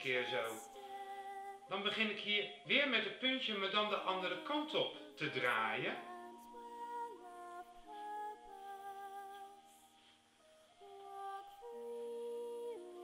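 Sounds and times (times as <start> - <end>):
soft music of held notes: 0.0 - 13.0.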